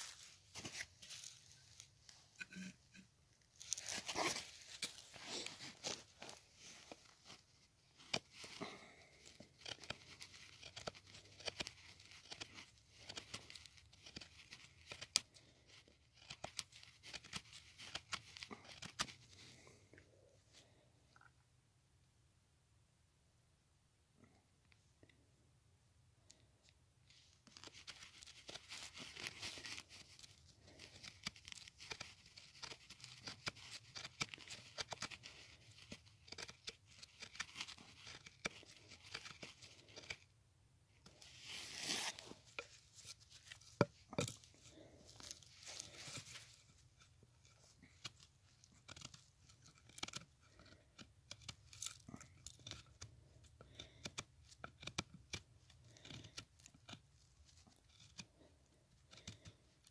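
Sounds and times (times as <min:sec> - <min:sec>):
knife carving wood: 0:00.0 - 0:21.3, 0:27.0 - 0:59.9.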